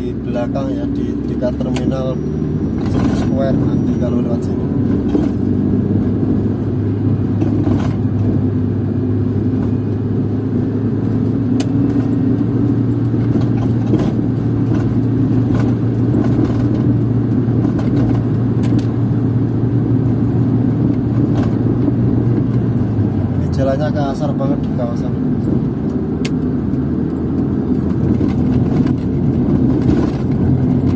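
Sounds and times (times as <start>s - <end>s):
car engine and tyres droning: 0.0s - 30.9s.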